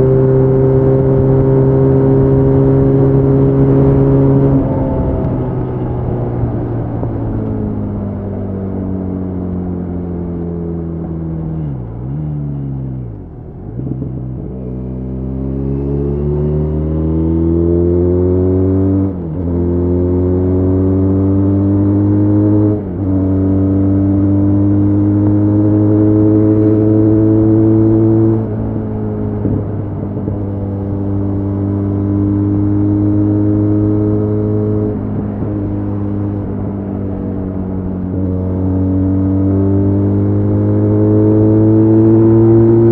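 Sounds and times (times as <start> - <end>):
motorcycle engine slowing and accelerating: 0.0 - 42.9.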